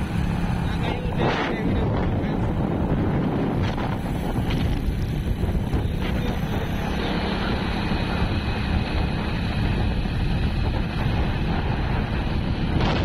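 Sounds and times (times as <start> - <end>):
vehicle rumble on road: 0.0 - 13.0
wind over microphone: 0.0 - 13.0.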